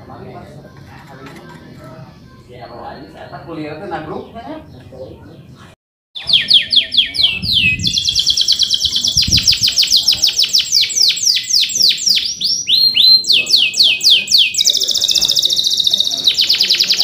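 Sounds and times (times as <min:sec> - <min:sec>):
canary singing: 0:00.2 - 0:17.0.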